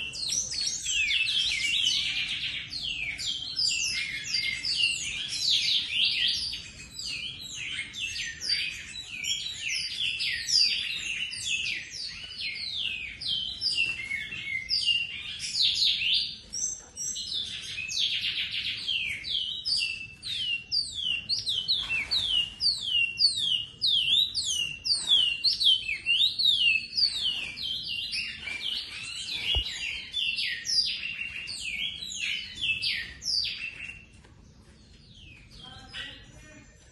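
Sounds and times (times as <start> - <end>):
finch singing whistled notes: 0.0 - 34.2.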